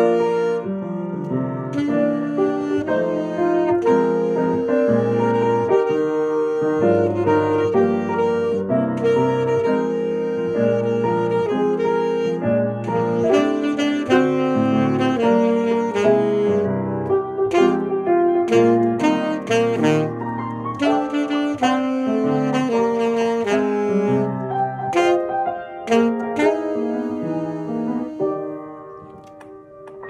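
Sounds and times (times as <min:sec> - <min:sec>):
grand piano accompaniment: 0:00.0 - 0:30.0
saxophone melody: 0:00.0 - 0:30.0.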